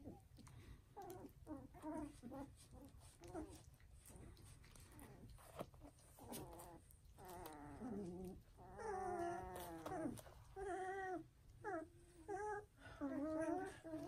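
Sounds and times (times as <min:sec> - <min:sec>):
puppies whining and crying: 0:01.0 - 0:14.0.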